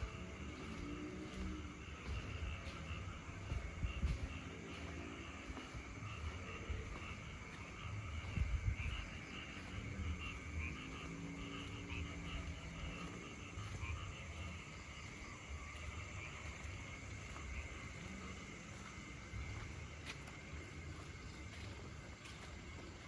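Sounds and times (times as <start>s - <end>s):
frogs calling: 0.0s - 23.0s
steady low rumble: 0.0s - 23.0s.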